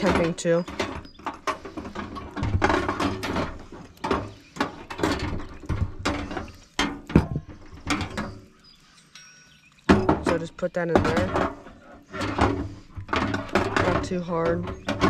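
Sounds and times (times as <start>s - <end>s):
metal tank knocking and scraping: 0.0s - 8.7s, 9.8s - 15.0s.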